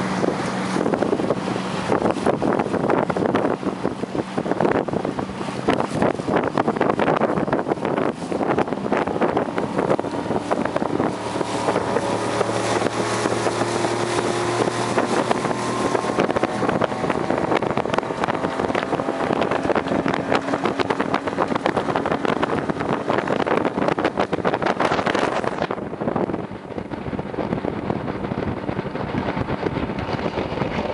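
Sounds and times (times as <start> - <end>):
motorboat engine running: 0.0 - 30.9
wind buffeting microphone: 0.0 - 30.9.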